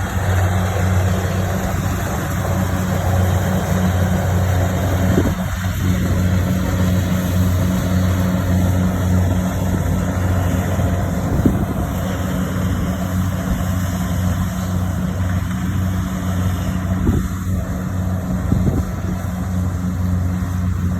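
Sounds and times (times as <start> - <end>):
harvester engine humming: 0.0 - 20.9.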